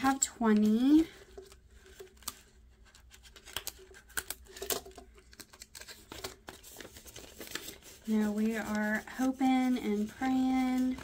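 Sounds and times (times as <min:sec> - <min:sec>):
plastic rustling: 0:00.0 - 0:11.0.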